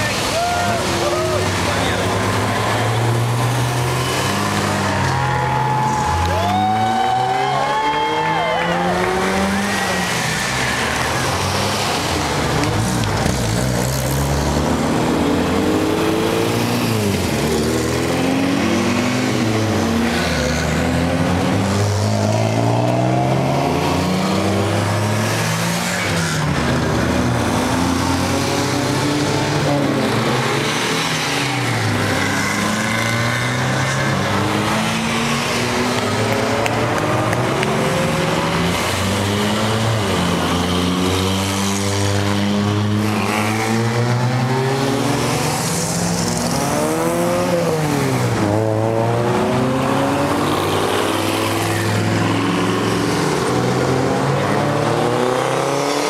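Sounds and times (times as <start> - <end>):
race car engines accelerating past: 0.0 - 56.0.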